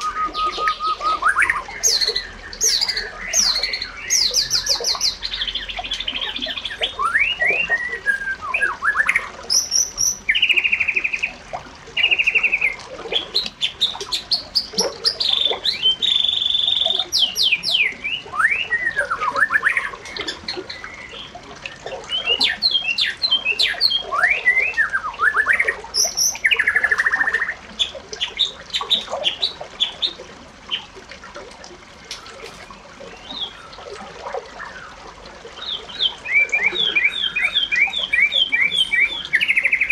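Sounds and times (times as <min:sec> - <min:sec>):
birds singing and calling: 0:00.0 - 0:31.0, 0:31.9 - 0:39.9.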